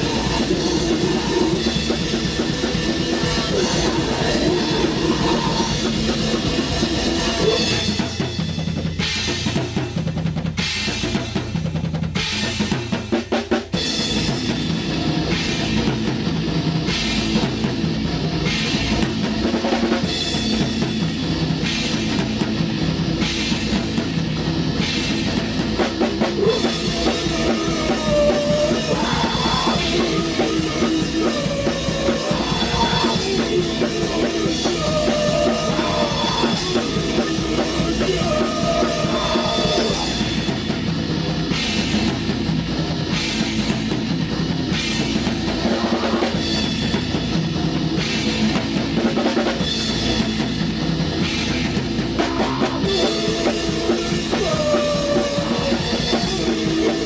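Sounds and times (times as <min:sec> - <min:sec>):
metal band playing: 0:00.0 - 0:11.6, 0:12.2 - 0:57.0
drum kit: 0:00.0 - 0:57.0.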